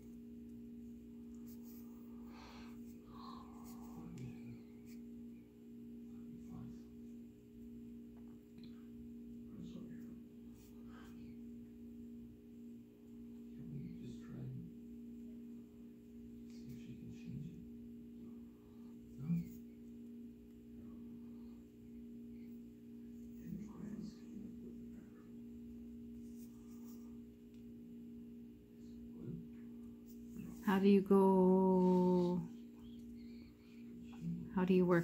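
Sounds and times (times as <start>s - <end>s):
low room hum: 0.0s - 35.0s.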